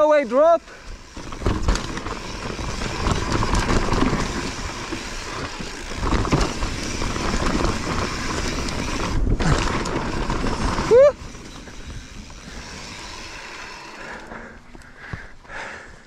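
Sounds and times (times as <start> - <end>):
bike rattling over rough ground: 0.0 - 15.8
bike tyres rolling: 0.0 - 16.0
wind: 0.0 - 16.0.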